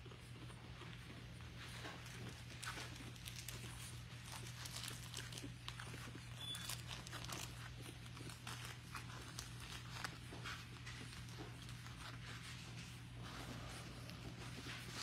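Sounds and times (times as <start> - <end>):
puppy paws scratching and rustling: 0.0 - 15.0
steady low hum: 0.0 - 15.0.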